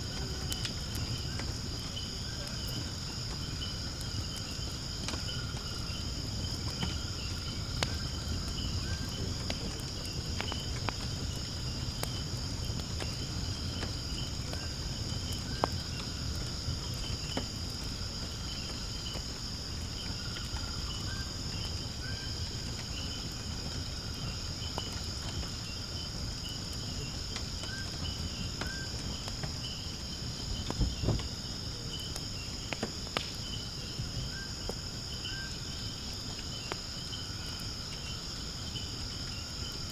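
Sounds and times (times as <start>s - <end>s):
insects trilling: 0.0s - 39.9s
low rumble of flames: 0.0s - 39.9s
wood fire crackling and popping: 0.0s - 39.9s.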